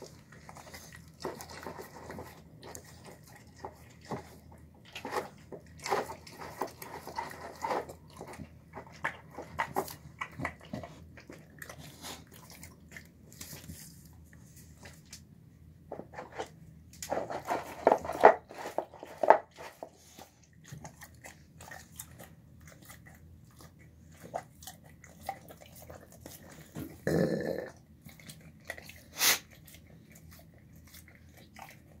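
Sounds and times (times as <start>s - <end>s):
dog chewing food: 0.0s - 32.0s.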